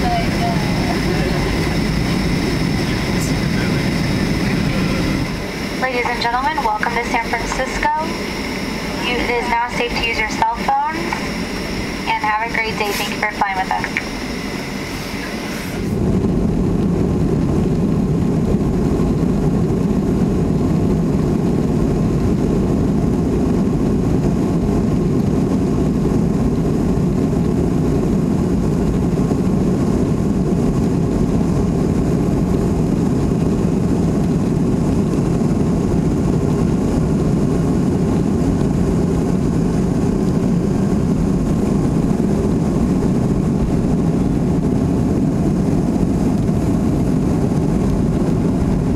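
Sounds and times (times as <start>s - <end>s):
jet airliner engine rumble: 0.0s - 48.9s.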